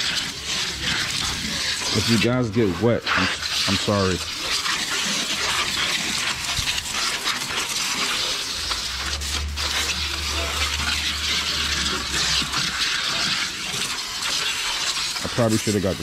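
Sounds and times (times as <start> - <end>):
hose spray hissing and splashing: 0.0 - 16.0.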